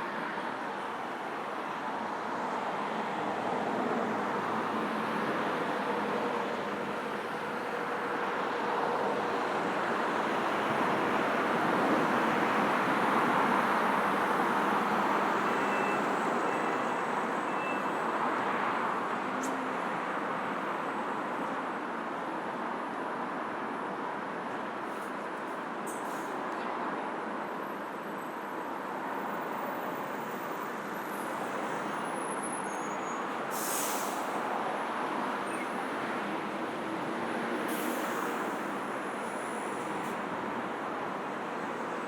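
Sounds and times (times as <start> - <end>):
city traffic passing: 0.0 - 42.0.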